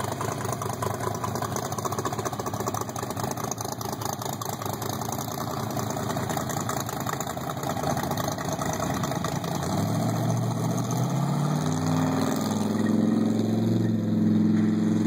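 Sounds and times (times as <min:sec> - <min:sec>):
rough truck engine pulsing: 0:00.0 - 0:15.0.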